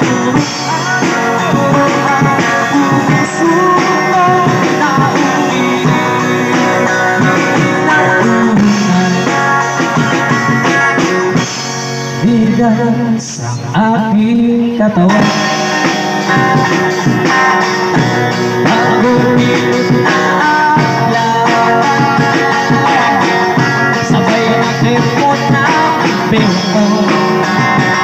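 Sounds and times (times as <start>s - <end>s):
man singing into a microphone: 0.0s - 10.0s, 12.2s - 16.4s, 17.8s - 28.0s
drum kit with cymbals: 0.0s - 13.1s, 15.0s - 28.0s
electric guitar through amplifier: 0.0s - 28.0s.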